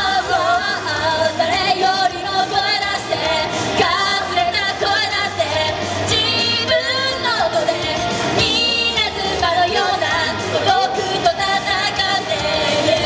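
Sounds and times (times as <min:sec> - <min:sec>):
girls singing in group: 0:00.0 - 0:13.0
upbeat pop song: 0:00.0 - 0:13.0.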